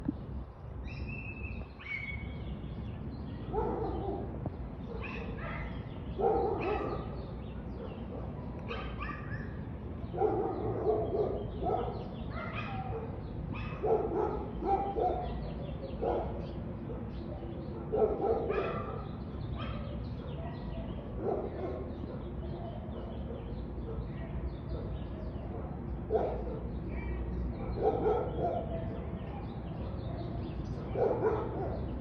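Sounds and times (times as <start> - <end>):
dog barking: 3.5 - 32.0.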